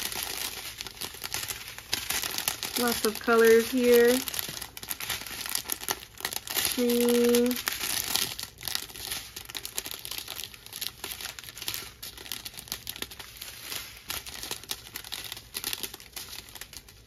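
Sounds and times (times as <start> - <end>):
plastic packets crinkling: 0.0 - 17.0.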